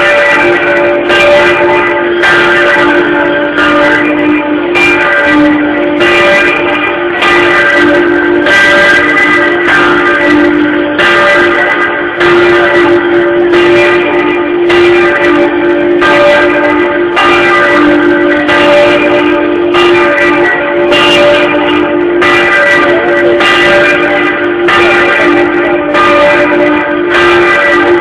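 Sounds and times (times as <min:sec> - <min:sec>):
church bell ringing: 0:00.0 - 0:28.0.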